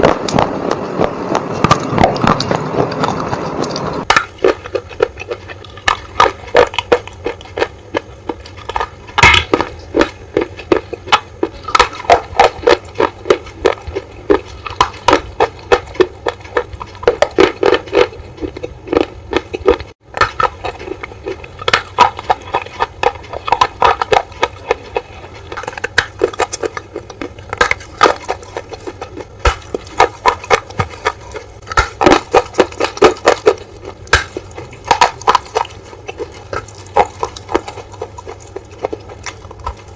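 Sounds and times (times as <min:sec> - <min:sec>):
crunching hard bars: 0:00.0 - 0:39.9.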